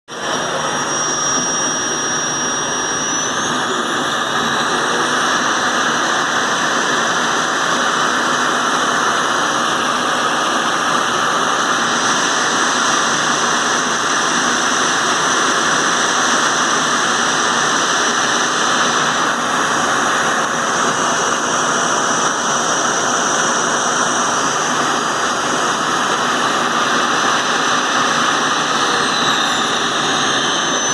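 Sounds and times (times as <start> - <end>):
vacuum cleaner motor running: 0.1 - 30.9.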